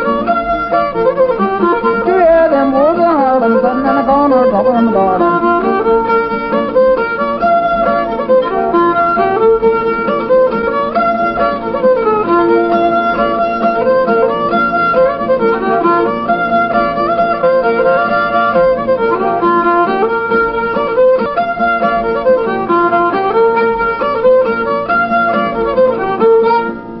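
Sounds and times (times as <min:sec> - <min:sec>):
fiddle tune: 0:00.0 - 0:27.0.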